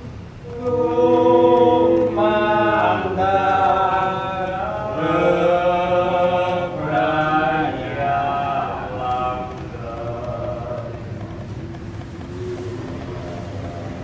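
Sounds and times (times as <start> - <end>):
devotional chanting in long notes: 0.0 - 14.0.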